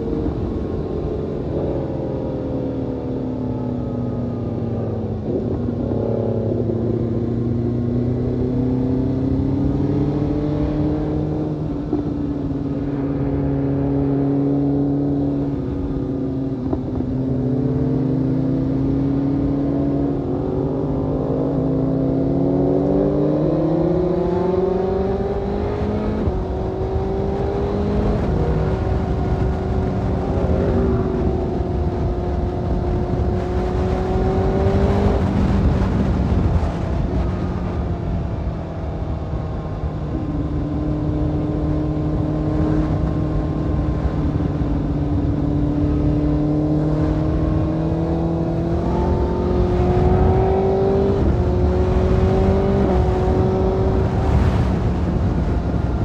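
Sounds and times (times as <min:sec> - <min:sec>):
wind noise: 0:00.0 - 0:56.0.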